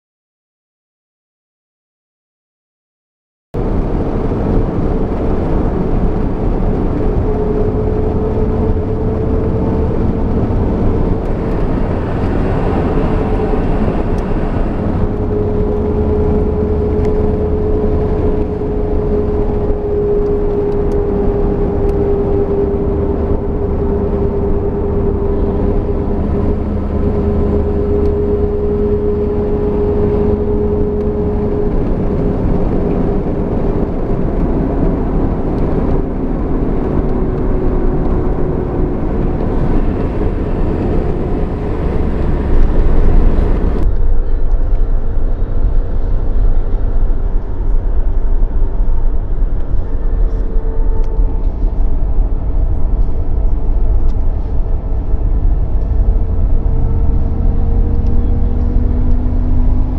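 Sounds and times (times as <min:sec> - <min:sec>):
car engine: 0:03.6 - 0:59.9
rear differential whine: 0:03.6 - 0:59.9
road rumble: 0:03.6 - 0:59.9.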